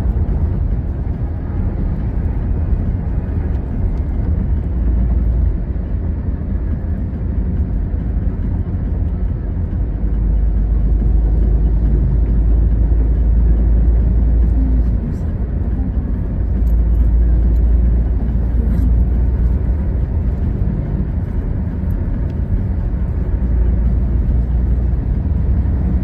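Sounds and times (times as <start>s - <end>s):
road and wind noise: 0.0s - 26.0s
vehicle engine: 0.0s - 26.0s.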